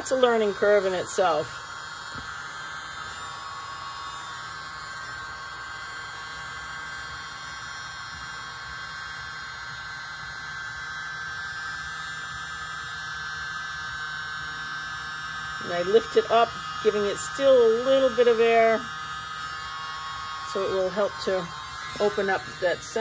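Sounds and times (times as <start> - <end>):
electric leaf blower running: 0.0 - 23.0.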